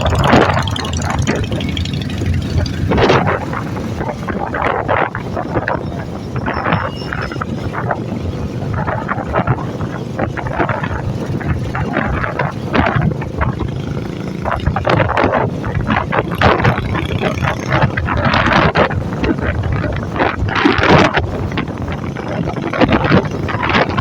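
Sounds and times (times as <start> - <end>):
motorcycle engine rumbling: 0.0 - 24.0
wind on microphone: 0.0 - 24.0.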